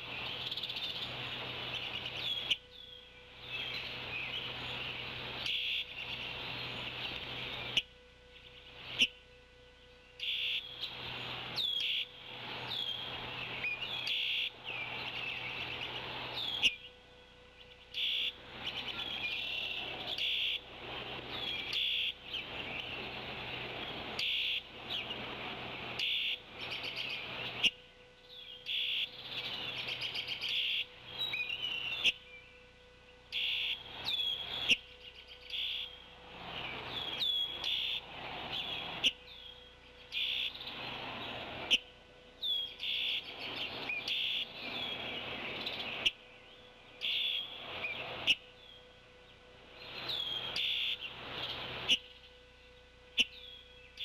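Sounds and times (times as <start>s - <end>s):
birds chirping: 0.0s - 54.0s
faint steady hum: 0.0s - 54.0s.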